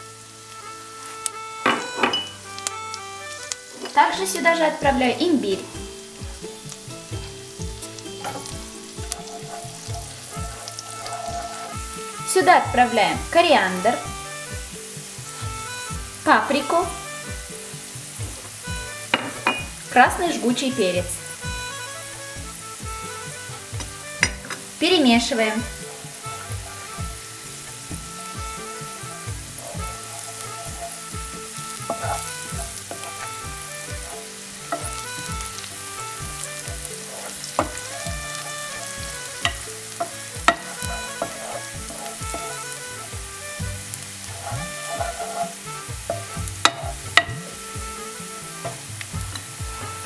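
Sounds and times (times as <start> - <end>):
ghee sizzling in a frying pan: 0.0 - 50.0
soft background music with beat: 0.0 - 50.0
wooden spoon stirring: 1.0 - 50.0.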